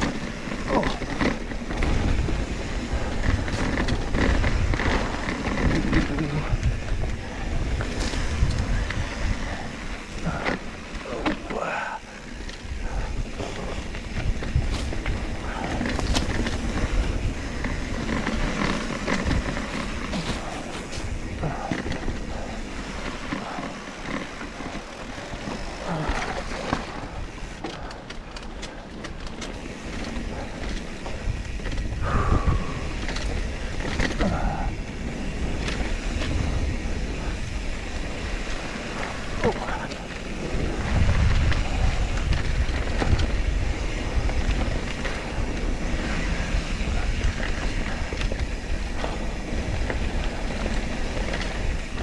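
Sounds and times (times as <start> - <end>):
bike rattling and clicking: 0.0 - 52.0
bike tyres on dirt: 0.0 - 52.0
wind rumble on microphone: 0.0 - 52.0.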